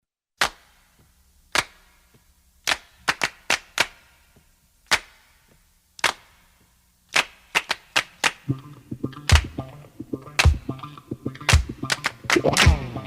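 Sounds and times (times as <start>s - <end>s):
handclaps: 0.4s - 13.0s.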